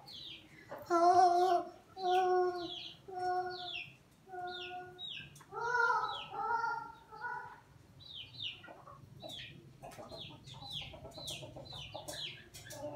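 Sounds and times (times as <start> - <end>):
chickens clucking: 0.0 - 12.9
chickens peeping: 0.0 - 12.9.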